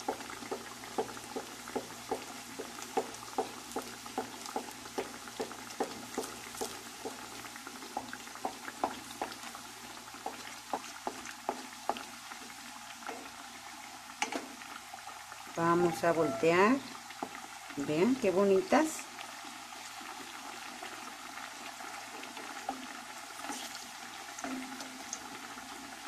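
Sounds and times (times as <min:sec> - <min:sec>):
hot oil bubbling and crackling: 0:00.0 - 0:26.0.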